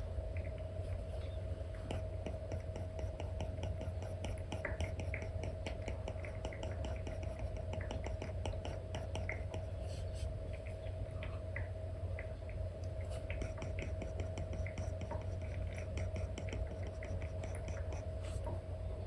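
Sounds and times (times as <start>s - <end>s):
low hum: 0.0s - 19.0s
stylus tapping and scratching screen: 0.8s - 10.8s, 13.0s - 18.5s.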